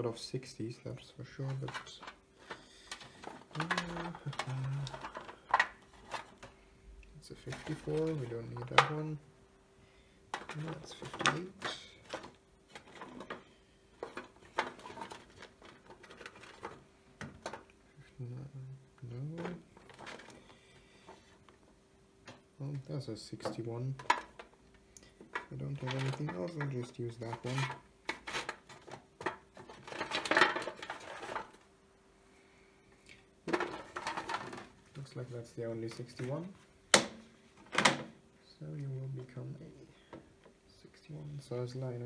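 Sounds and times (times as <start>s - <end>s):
faint steady hum: 0.0s - 42.0s
plastic parts knocking and rustling: 1.2s - 6.6s, 7.4s - 9.2s, 10.3s - 18.2s, 19.0s - 31.7s, 33.4s - 38.3s, 38.9s - 40.6s.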